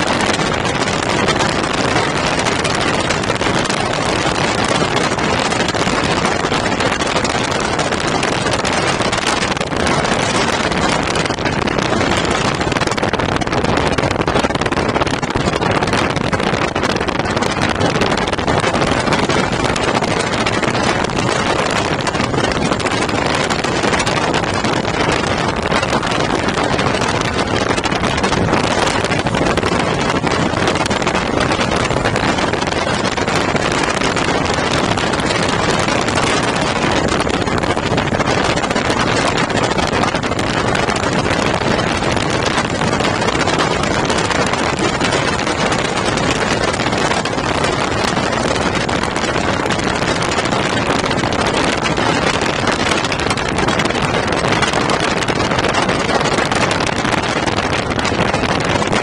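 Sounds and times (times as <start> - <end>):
small aircraft engine and propeller: 0.0 - 59.0
wind buffeting microphone: 0.0 - 59.0.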